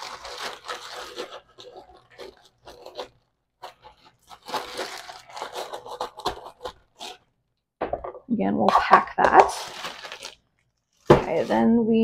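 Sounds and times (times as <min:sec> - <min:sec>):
sugar crunching and scraping: 0:00.0 - 0:07.4, 0:08.7 - 0:12.0.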